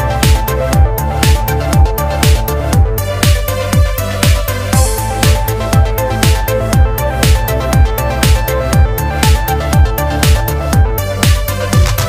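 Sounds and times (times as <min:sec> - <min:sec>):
thumping kick drum: 0:00.0 - 0:12.0.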